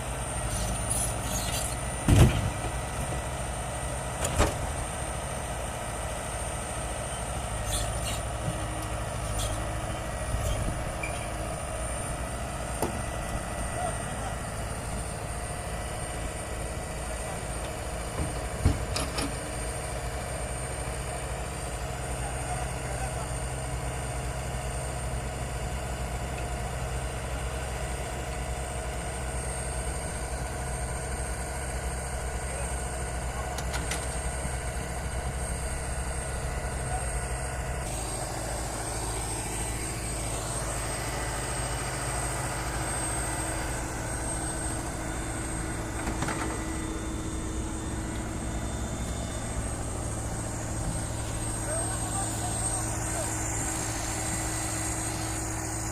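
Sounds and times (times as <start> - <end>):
diesel earth-moving machinery: 0.0 - 55.9.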